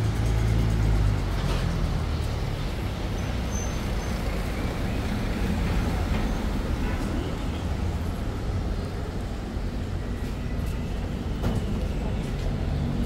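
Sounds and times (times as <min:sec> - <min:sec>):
rumble of passing cars and buses: 0:00.0 - 0:13.0.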